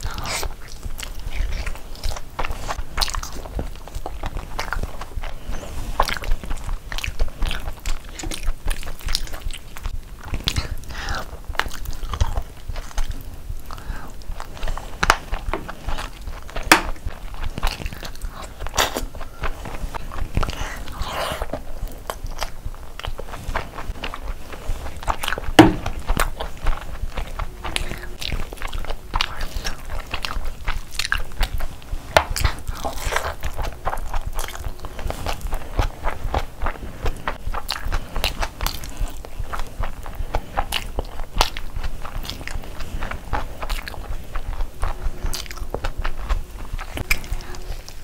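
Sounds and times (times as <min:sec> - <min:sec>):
chewing and biting: 0:00.0 - 0:48.0.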